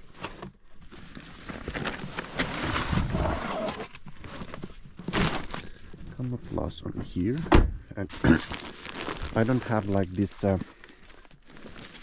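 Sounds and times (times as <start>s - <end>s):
cover sheet rustling and crackling: 0.0s - 6.0s, 8.2s - 12.0s.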